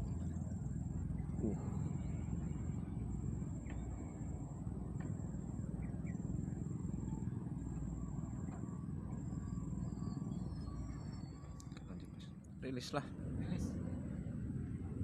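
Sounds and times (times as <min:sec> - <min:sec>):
thin steady high tone: 0:00.0 - 0:14.1.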